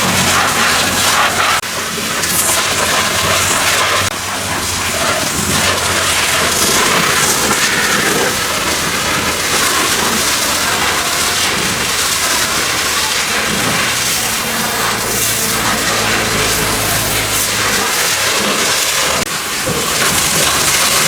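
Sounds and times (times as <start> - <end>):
machine low hum: 0.0 - 19.2
pressure washer spraying water: 0.0 - 21.0.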